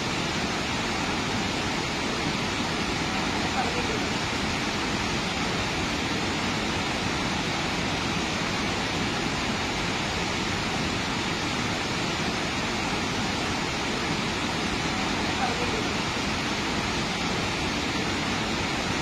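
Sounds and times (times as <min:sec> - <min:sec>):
water rushing down spillway: 0:00.0 - 0:19.0.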